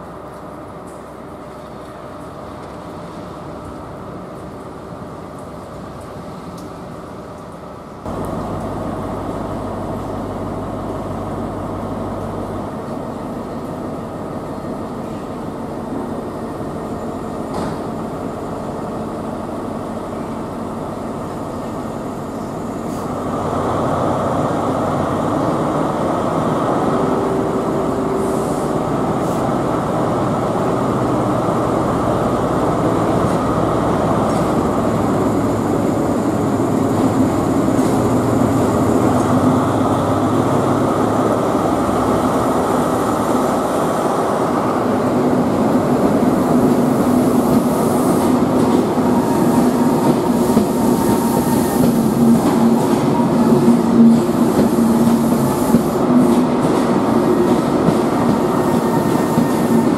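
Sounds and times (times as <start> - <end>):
train diesel engine running: 0.0 - 59.9.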